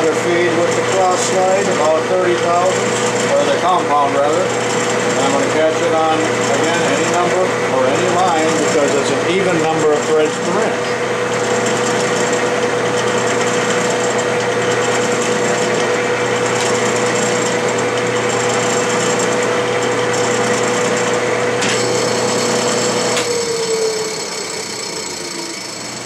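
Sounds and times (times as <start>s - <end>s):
metal lathe whine: 0.0s - 26.0s.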